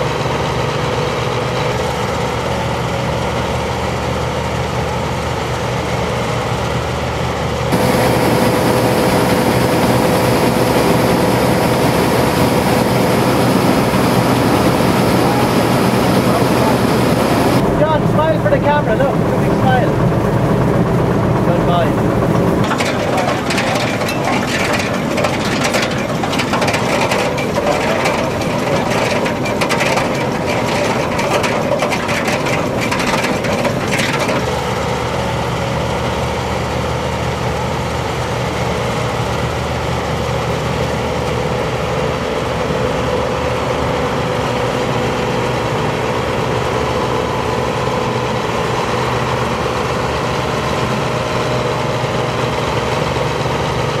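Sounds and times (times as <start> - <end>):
combine harvester rattling clatter: 0.0 - 54.0
engine drone with whine: 0.0 - 54.0.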